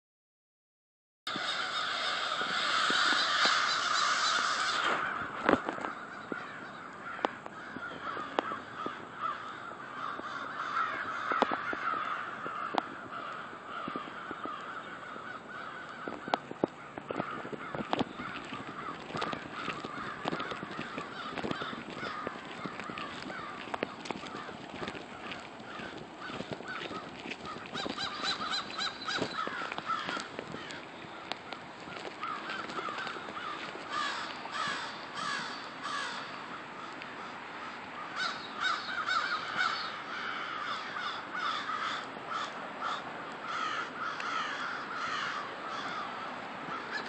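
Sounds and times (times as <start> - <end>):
flock of crows cawing: 1.3 - 47.0.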